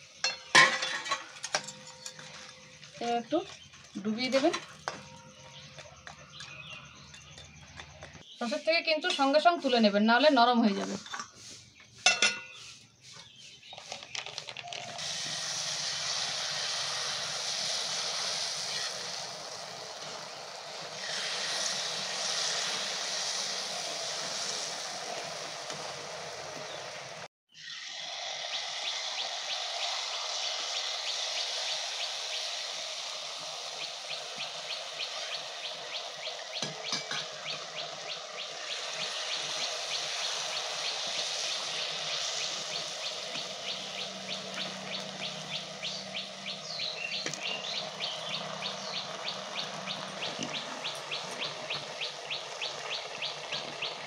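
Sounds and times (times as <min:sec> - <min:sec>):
batter sizzling in hot oil: 0:00.0 - 0:54.0.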